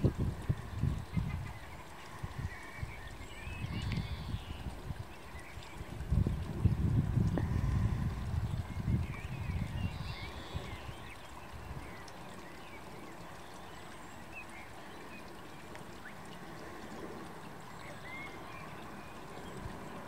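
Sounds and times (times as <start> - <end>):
small birds chirping: 0.5 - 6.6, 7.4 - 20.0.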